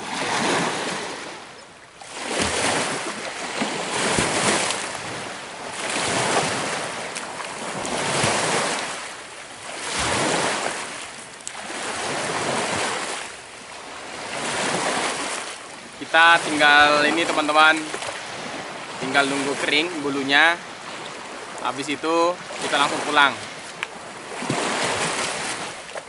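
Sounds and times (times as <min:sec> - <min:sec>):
waves washing on pebbly shore: 0:00.0 - 0:26.0.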